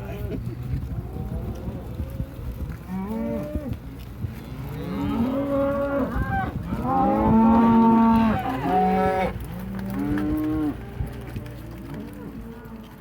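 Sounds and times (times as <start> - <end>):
cattle mooing: 1.1 - 3.8, 4.4 - 13.0.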